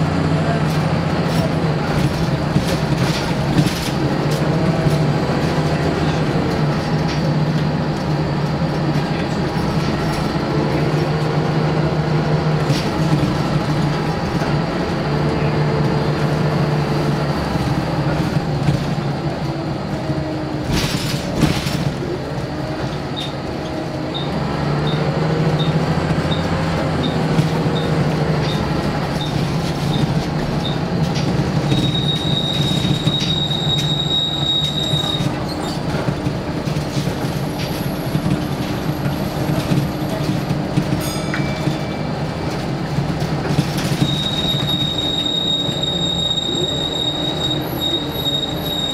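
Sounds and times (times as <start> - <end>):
bus diesel engine pulling: 0.0 - 48.9.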